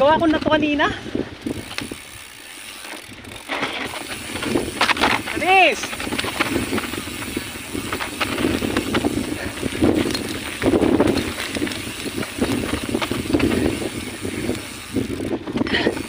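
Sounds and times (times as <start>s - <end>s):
bicycle tyres rolling on soil: 0.0s - 16.0s
bike rattling and clicking: 0.0s - 16.0s.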